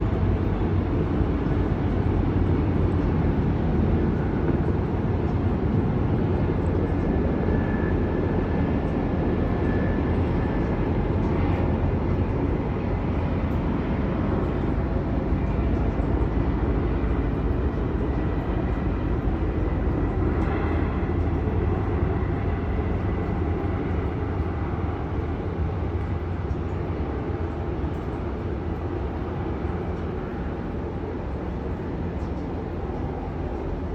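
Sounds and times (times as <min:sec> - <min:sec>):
aircraft rumbling overhead: 0:00.0 - 0:33.9.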